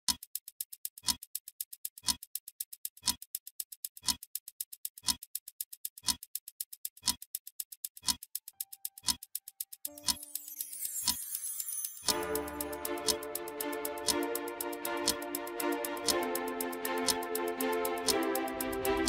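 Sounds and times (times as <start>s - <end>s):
clock ticking loudly: 0.0s - 19.0s.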